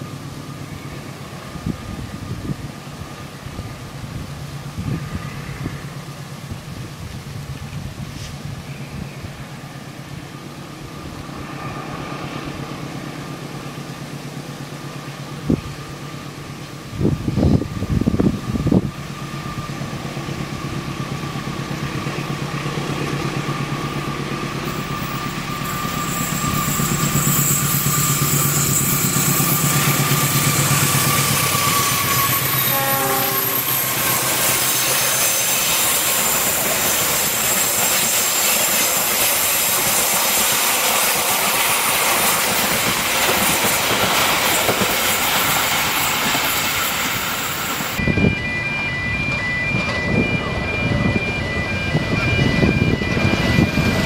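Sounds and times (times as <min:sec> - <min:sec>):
diesel locomotive engine hum: 0:00.0 - 0:54.0
train wheels on rails: 0:00.0 - 0:54.0.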